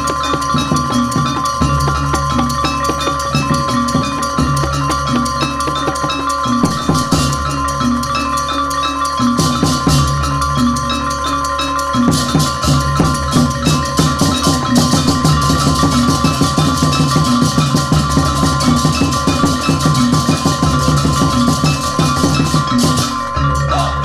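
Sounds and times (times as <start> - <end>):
fast drum strokes: 0.0 - 7.5, 12.0 - 24.0
mallet instrument melody: 0.0 - 24.0.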